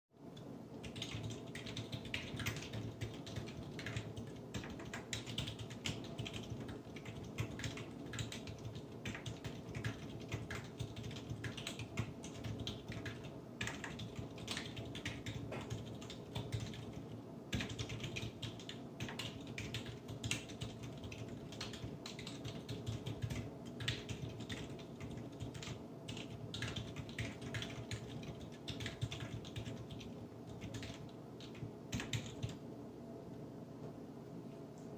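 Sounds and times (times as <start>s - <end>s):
mechanical keyboard typing: 0.4s - 32.6s.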